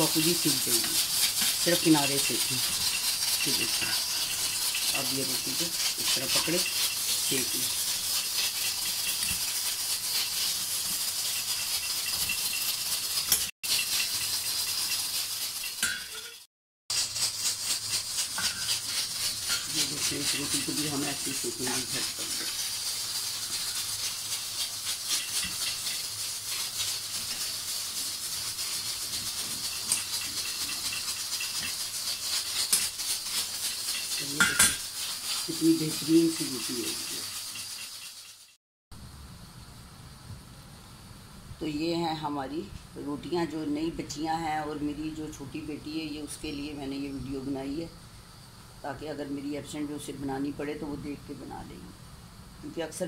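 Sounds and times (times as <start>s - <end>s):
gas burner flame hissing: 0.0s - 16.2s, 16.9s - 53.0s.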